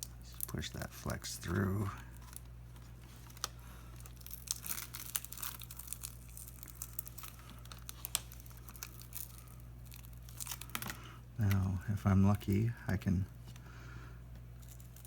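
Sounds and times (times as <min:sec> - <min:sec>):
glass crackling as peeled: 0:00.0 - 0:11.6, 0:14.6 - 0:15.0
low steady hum: 0:00.0 - 0:15.0.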